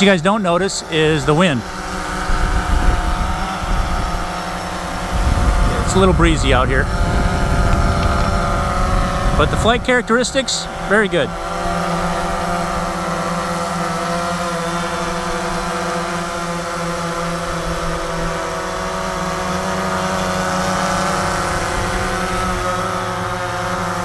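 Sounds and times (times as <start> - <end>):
drone propellers buzzing: 0.0 - 24.0.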